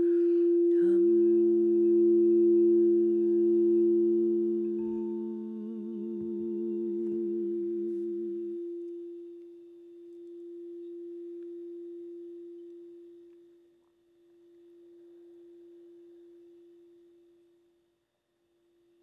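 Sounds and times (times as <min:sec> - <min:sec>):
crystal singing bowls ringing: 0:00.0 - 0:17.9.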